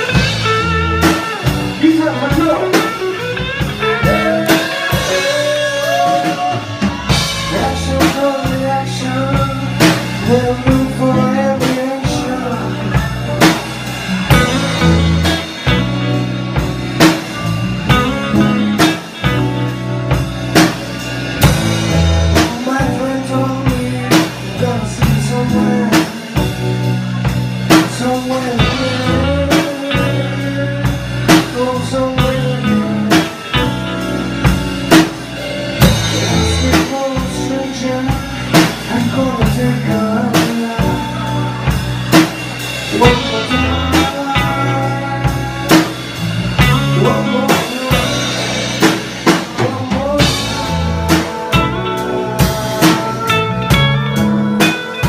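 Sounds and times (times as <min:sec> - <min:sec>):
acoustic and electric guitars: 0:00.0 - 0:55.0
drum kit beat: 0:00.0 - 0:55.0
electric bass: 0:00.0 - 0:55.0
keyboard: 0:00.0 - 0:55.0.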